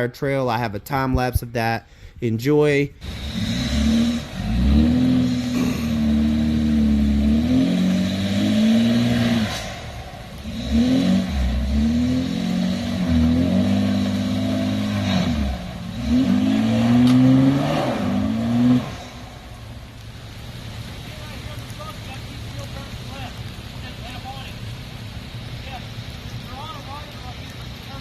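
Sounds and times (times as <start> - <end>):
jeep engine revving: 3.0 - 28.0.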